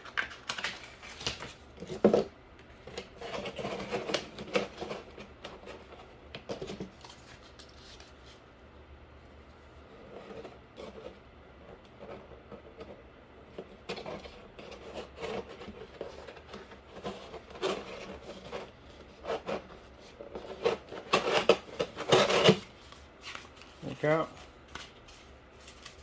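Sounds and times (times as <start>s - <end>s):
cardboard scraping and rustling: 0.0s - 8.4s, 9.8s - 26.0s.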